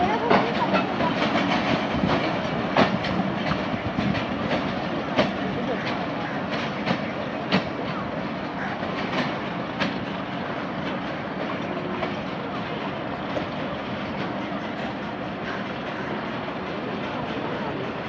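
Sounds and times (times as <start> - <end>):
train coaches rumbling past: 0.0 - 18.0
wheels clicking over rail joints: 0.0 - 18.0.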